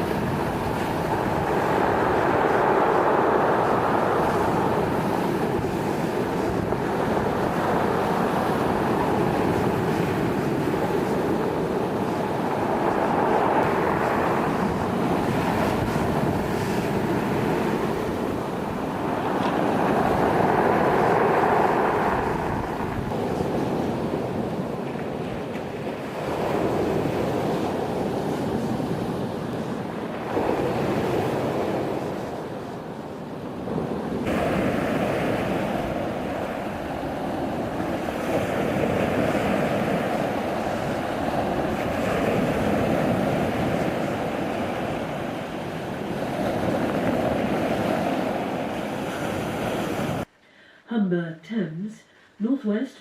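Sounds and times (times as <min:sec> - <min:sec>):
sea waves washing: 0:00.0 - 0:50.3
wind: 0:00.0 - 0:53.0.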